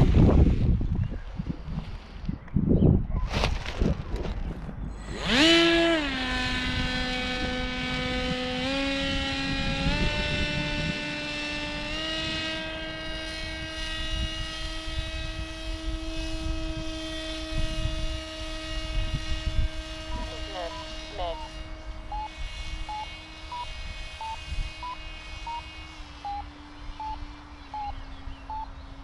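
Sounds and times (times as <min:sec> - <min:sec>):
model motor and propeller whine: 0:00.0 - 0:03.2, 0:03.8 - 0:29.0.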